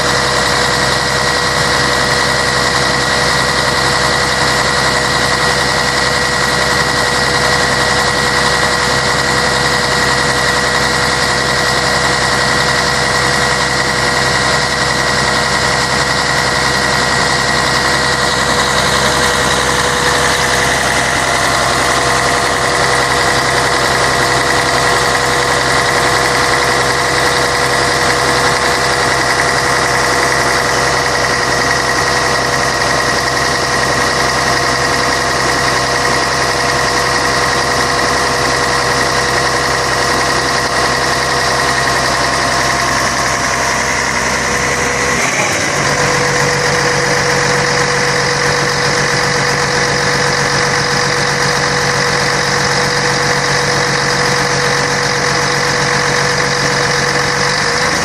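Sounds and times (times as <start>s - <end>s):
bus diesel engine running: 0.0s - 58.0s
high whine: 0.0s - 58.0s.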